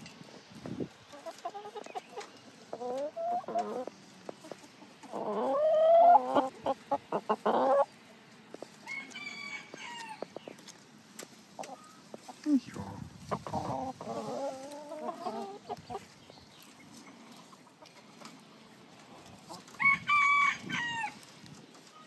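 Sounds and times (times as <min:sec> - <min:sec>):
chickens calling and clucking: 0:00.0 - 0:22.0.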